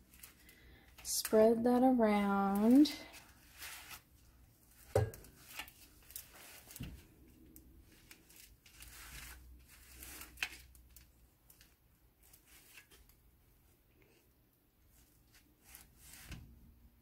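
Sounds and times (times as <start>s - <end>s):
spatula scraping and squishing: 0.0s - 13.2s, 15.0s - 16.4s.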